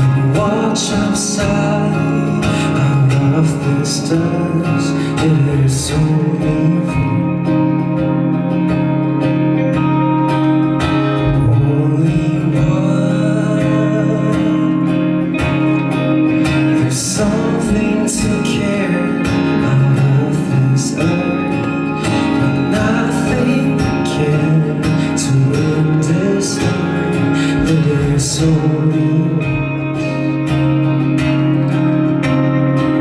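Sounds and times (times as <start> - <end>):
person singing: 0.0 - 8.4, 11.0 - 31.7
live band guitar song: 0.0 - 33.0.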